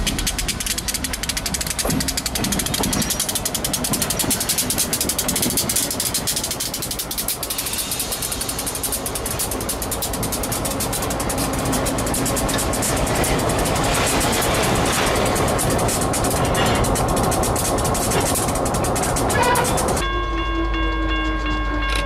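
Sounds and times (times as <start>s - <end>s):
diesel locomotive passing: 0.0s - 22.0s.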